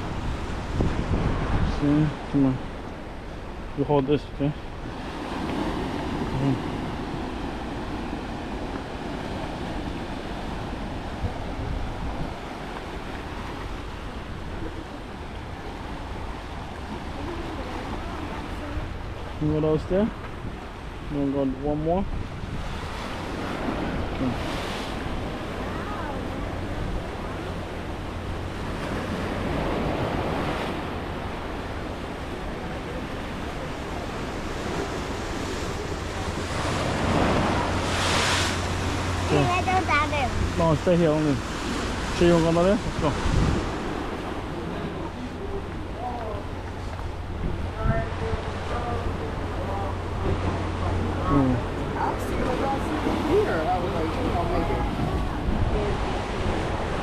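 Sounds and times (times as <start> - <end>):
wind rumbling on microphone: 0.0 - 3.8, 4.6 - 57.0
ocean waves washing in: 0.0 - 57.0.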